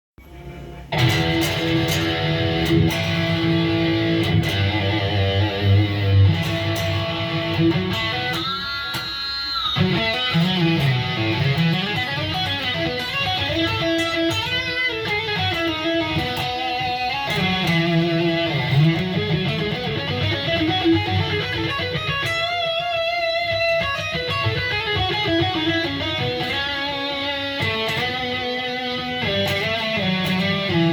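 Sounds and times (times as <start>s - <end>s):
electric guitar notes and chords: 0.2s - 30.9s.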